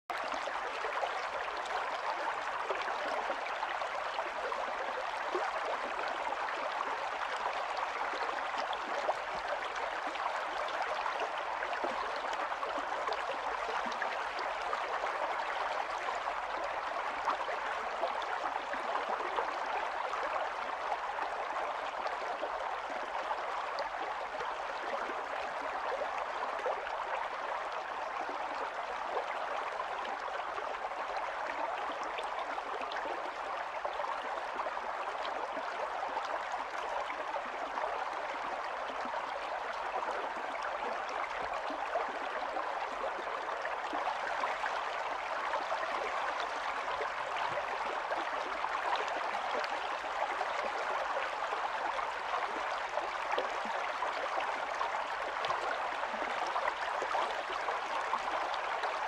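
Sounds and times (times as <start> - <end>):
stream flowing: 0.1 - 59.0.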